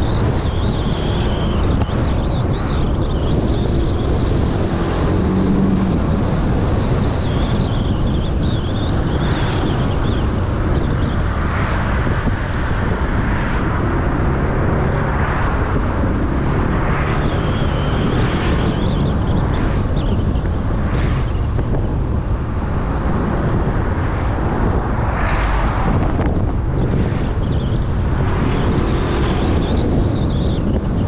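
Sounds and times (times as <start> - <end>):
moving vehicle rumble: 0.0 - 31.0
wind buffeting microphone: 0.0 - 31.0.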